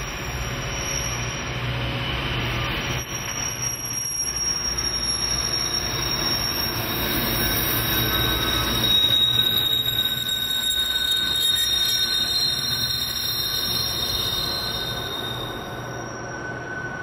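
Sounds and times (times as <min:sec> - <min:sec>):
train wheel squeal: 0:00.0 - 0:17.0.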